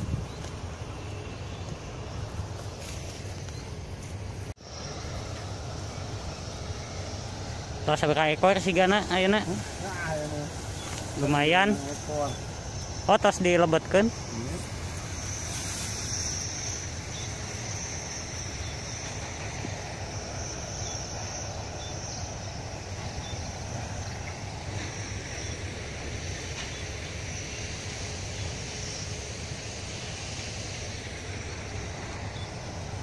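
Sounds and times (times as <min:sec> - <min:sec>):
high even buzz: 0:00.0 - 0:33.0.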